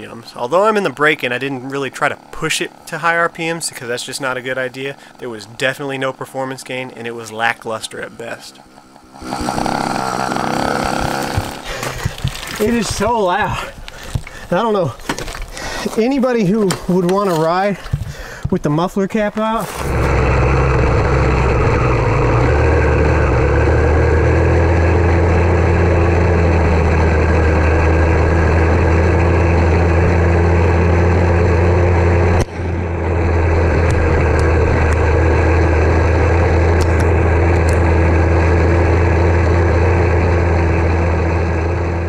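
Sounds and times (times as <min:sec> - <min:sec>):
two-stroke engine exhaust note: 0:00.0 - 0:13.2, 0:19.7 - 0:42.0.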